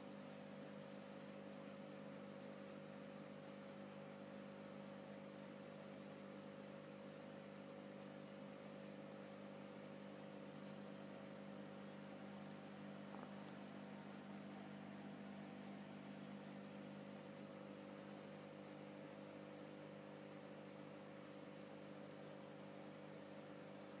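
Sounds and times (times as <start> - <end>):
electrical hum of aquarium equipment: 0.0 - 24.0.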